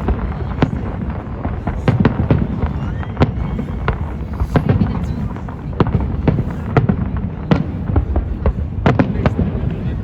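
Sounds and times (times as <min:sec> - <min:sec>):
distant explosions rumble: 0:00.0 - 0:10.0
fireworks bangs: 0:00.0 - 0:10.0.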